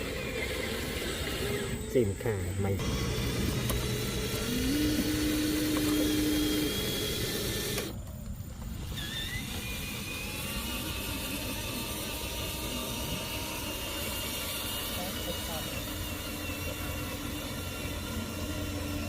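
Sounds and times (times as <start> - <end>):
machine running noise: 0.0 - 19.0
rising humming tone: 0.0 - 19.0.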